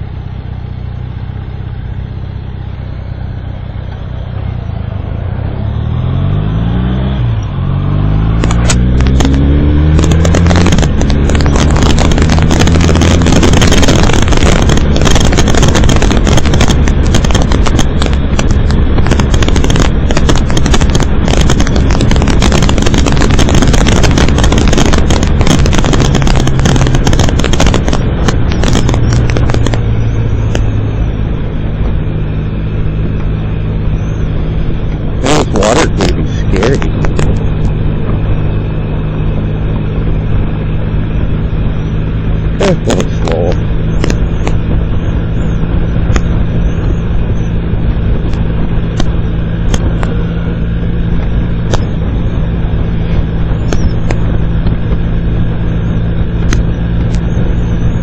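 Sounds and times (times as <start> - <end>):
motorcycle engine: 0.0 - 58.0
wind rushing on microphone: 4.3 - 58.0.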